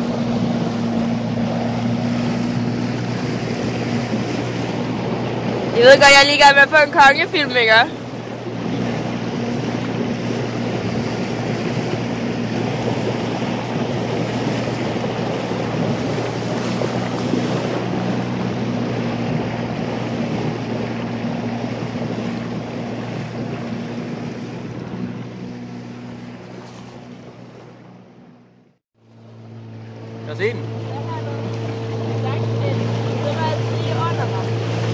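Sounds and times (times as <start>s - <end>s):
wind on microphone: 0.0s - 28.1s
boat motor hum: 0.0s - 34.9s
rushing water: 0.0s - 34.9s.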